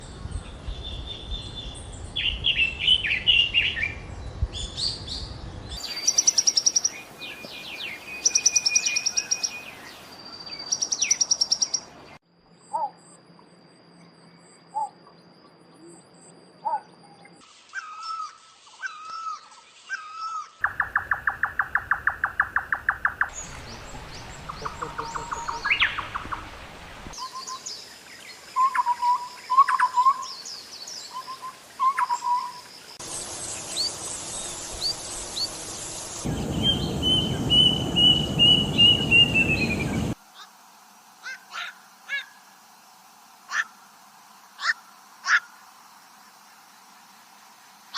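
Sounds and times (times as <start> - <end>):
songbirds singing: 0.0 - 40.2.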